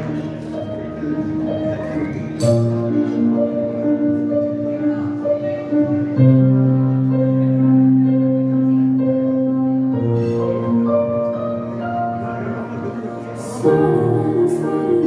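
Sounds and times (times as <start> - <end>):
sustained instrumental chords: 0.0 - 15.0.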